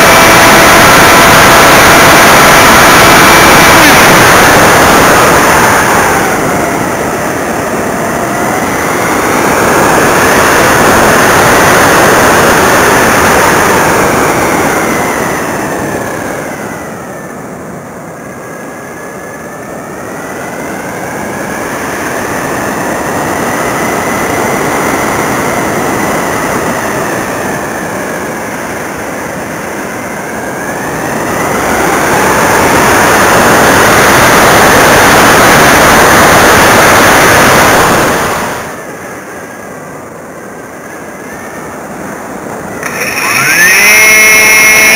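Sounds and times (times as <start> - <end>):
electric motor whine: 0.0 - 44.9
wind rush on microphone: 0.0 - 44.9.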